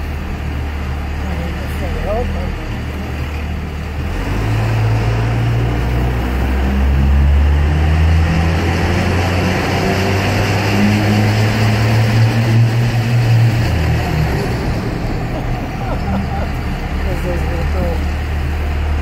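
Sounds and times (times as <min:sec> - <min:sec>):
diesel engine exhaust drone: 0:00.0 - 0:19.0.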